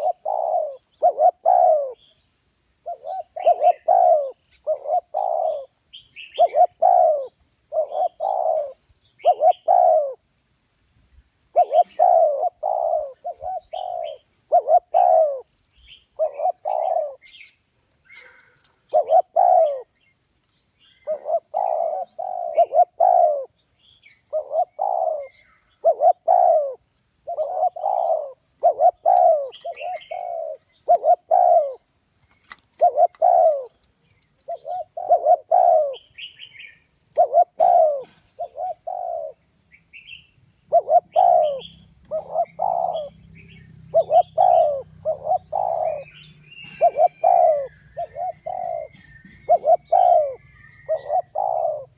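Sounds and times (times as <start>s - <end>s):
dove cooing: 0.0s - 2.2s, 2.8s - 10.2s, 11.5s - 17.5s, 18.1s - 19.9s, 20.9s - 23.6s, 24.3s - 39.4s, 40.6s - 51.9s
small birds chirping: 0.0s - 10.2s, 11.6s - 51.9s.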